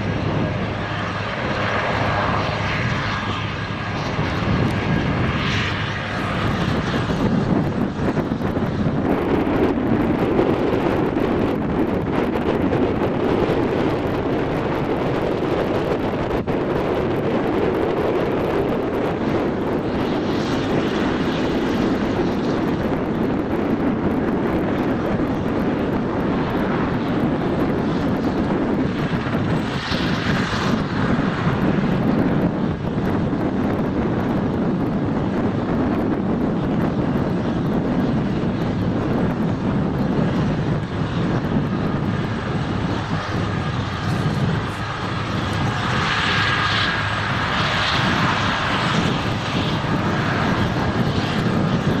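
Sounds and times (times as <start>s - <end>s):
helicopter engines and rotor running: 0.0s - 52.0s.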